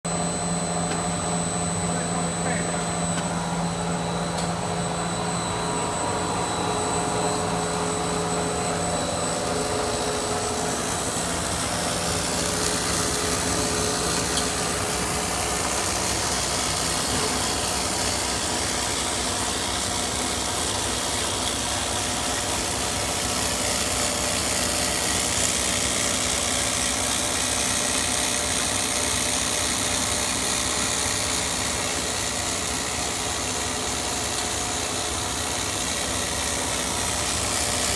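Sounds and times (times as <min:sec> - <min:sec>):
snack extruder machine drone: 0:00.1 - 0:37.9.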